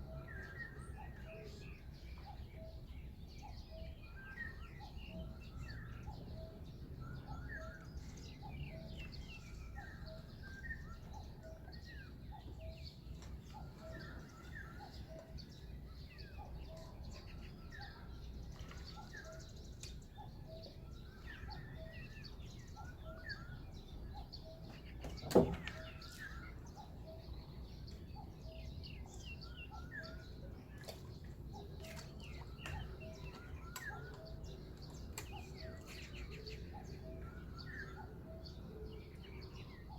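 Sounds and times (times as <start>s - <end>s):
birds chirping and calling: 0.0s - 39.9s
low steady outdoor hum: 0.0s - 39.9s.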